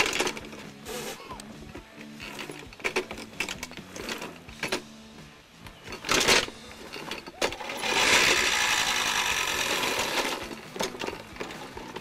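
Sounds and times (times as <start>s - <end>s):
reel lawnmower blades whirring: 0.0s - 4.9s, 5.8s - 12.0s.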